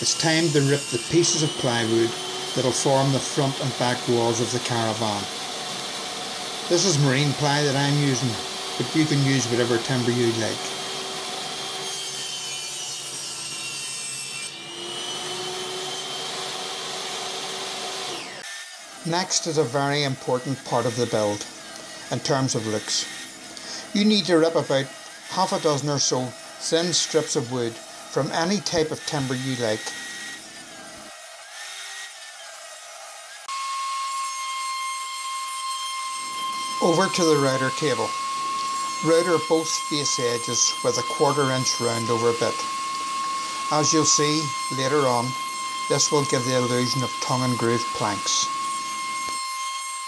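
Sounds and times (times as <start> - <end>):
router whining: 0.0 - 50.0
table saw cutting plywood: 0.0 - 50.0.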